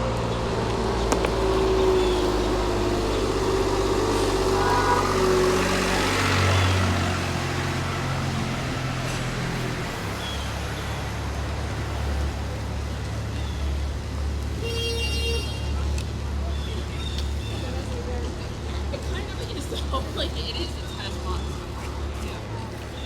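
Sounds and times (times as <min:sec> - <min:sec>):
road traffic engine hum: 0:00.0 - 0:23.0.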